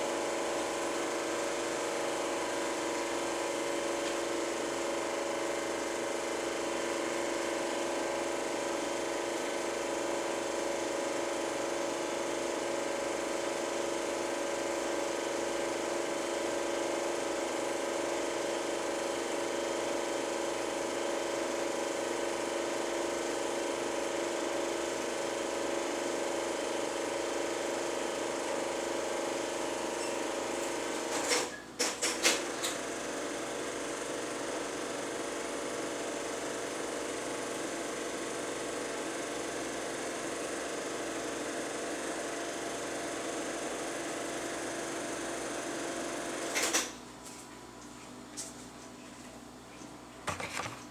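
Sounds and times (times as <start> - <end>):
film projector whirring clatter: 0.0 - 49.0, 50.2 - 50.9.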